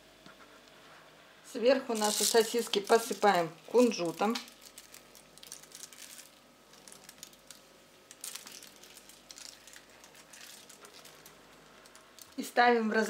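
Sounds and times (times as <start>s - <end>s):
seeds landing on paper: 1.9s - 12.5s.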